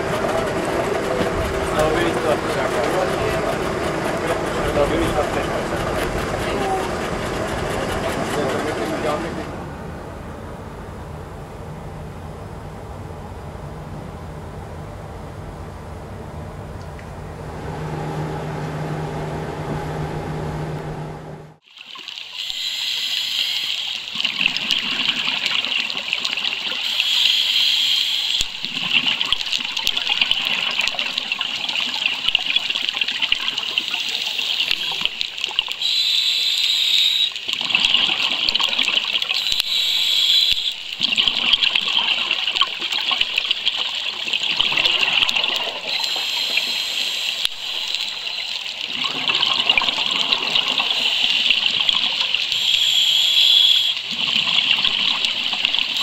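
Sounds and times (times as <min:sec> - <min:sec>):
bubbling exhaust underwater: 0:00.0 - 0:11.3, 0:22.4 - 0:56.0.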